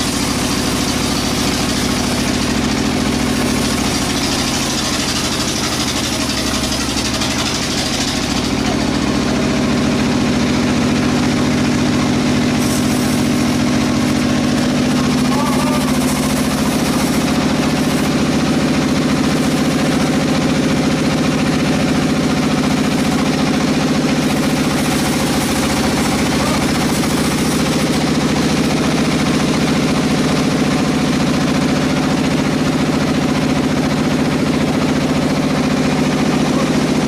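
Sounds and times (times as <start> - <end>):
sawmill engine running: 0.0 - 37.0.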